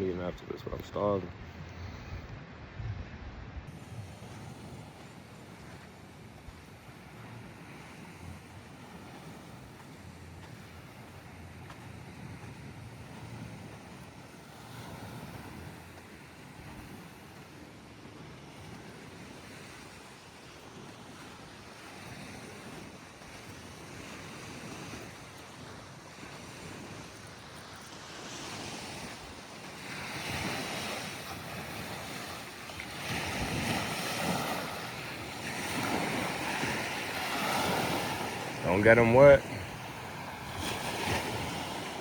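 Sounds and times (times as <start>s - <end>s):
ocean surf washing onto beach: 0.0s - 42.0s
wind on microphone: 0.8s - 42.0s.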